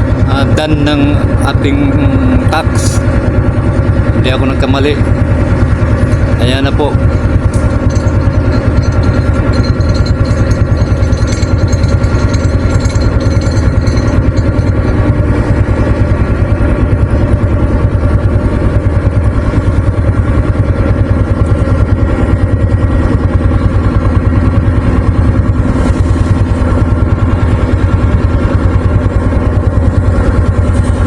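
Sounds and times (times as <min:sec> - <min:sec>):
heavy construction machinery rumbling: 0:00.0 - 0:31.0.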